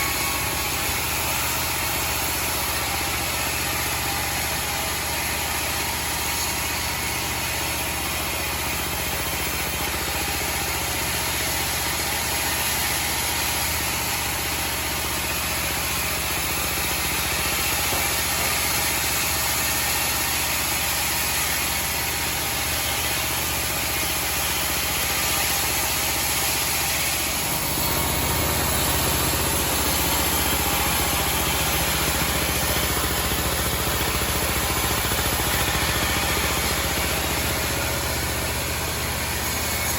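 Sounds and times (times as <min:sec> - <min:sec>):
sawmill machine noise: 0:00.0 - 0:39.9.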